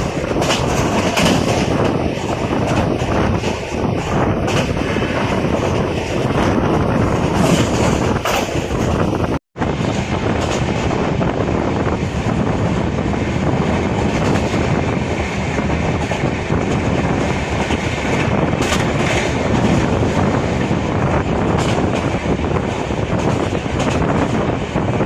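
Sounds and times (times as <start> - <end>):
rushing air: 0.0 - 25.0
train wheels rumbling on rail: 0.0 - 25.0.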